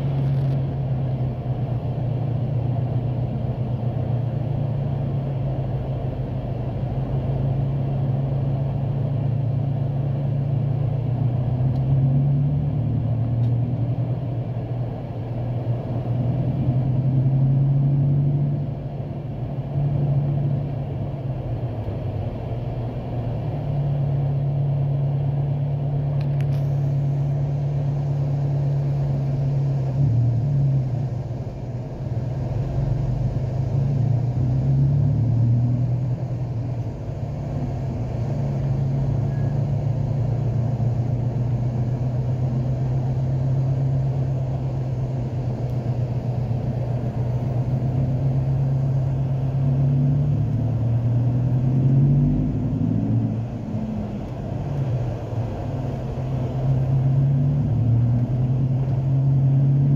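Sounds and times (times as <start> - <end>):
car engine hum: 0.0 - 59.9
road noise inside car: 0.0 - 59.9.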